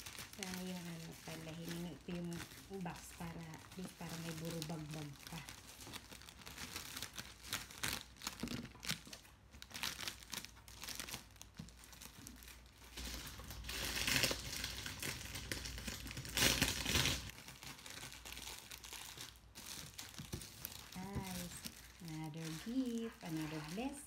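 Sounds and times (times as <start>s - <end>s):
plastic wrapping crinkling: 0.0s - 24.0s.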